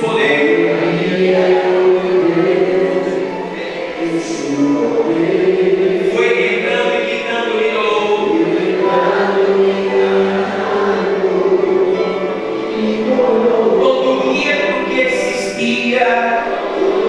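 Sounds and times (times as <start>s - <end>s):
group singing worship song: 0.0s - 17.0s.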